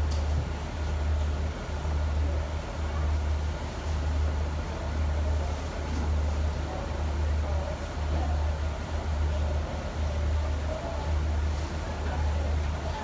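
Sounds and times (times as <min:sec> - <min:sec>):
diesel train engine idling: 0:00.0 - 0:13.0.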